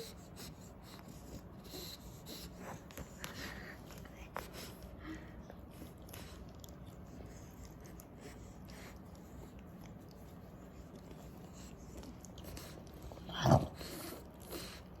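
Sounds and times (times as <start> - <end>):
dog breathing faintly: 0.0 - 15.0.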